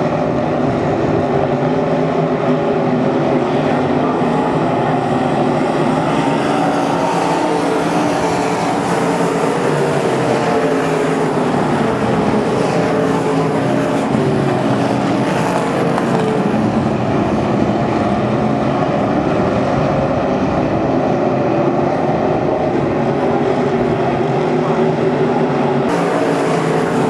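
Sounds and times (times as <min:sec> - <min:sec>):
race car engines: 0:00.0 - 0:27.0.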